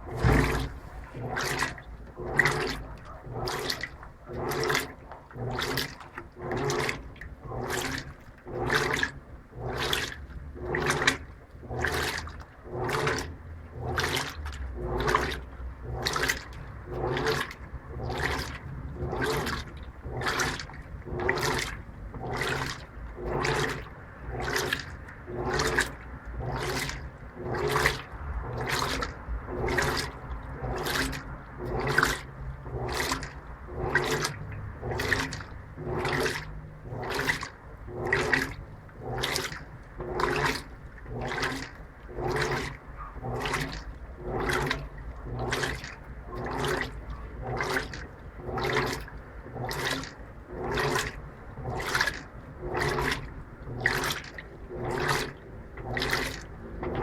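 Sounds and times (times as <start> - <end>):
low motor hum: 0.0 - 57.0
washing machine sloshing: 0.0 - 57.0.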